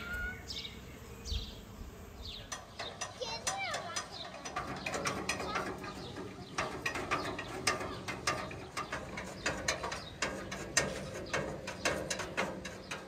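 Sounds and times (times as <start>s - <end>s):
metal grill clicks and clanks: 2.4s - 13.0s.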